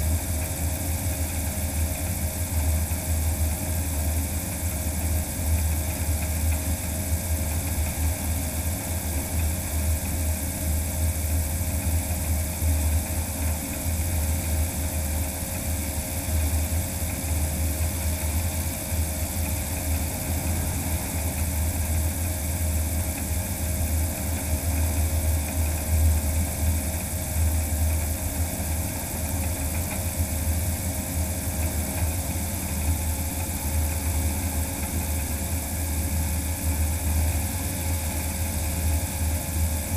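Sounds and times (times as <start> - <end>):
electric floatplane propeller rumble: 0.0 - 39.9.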